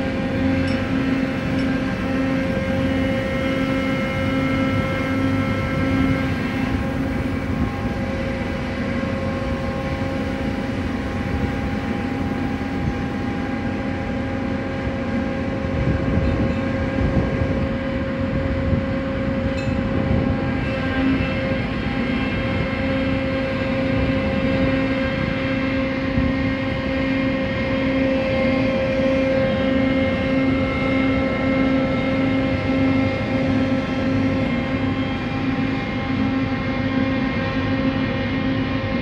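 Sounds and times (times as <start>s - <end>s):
crane machinery rumbling and humming: 0.0s - 39.0s.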